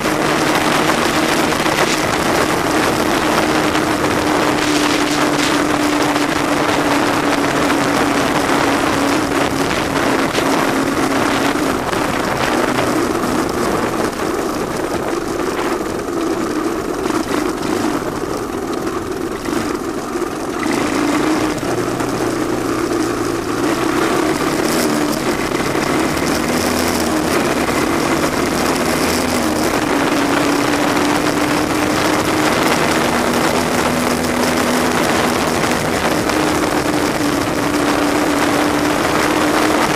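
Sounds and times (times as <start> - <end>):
three-wheeler engine running: 0.0 - 39.9.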